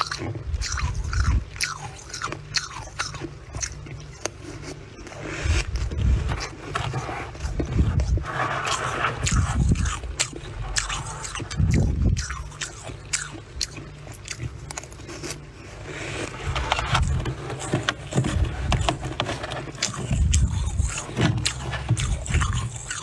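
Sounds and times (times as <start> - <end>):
crunchy crackles of chewing frost: 0.0 - 23.0
dull chewing thuds: 0.0 - 23.0.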